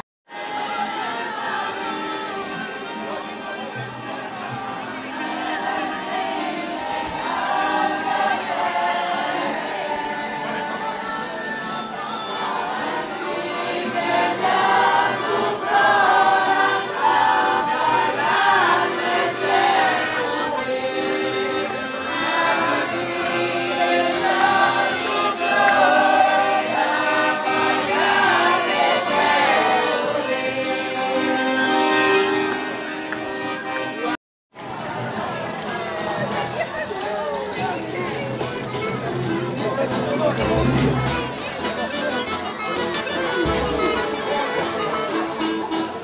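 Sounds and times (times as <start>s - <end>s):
piano accordion: 0.3s - 34.2s, 38.8s - 46.0s
group singing folk song: 0.3s - 46.0s.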